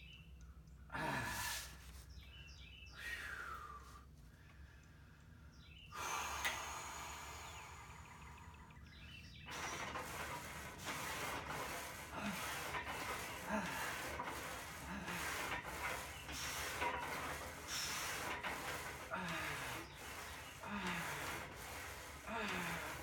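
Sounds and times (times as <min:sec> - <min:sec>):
man breathing heavily: 0:00.9 - 0:01.8, 0:03.0 - 0:08.4, 0:09.5 - 0:23.0.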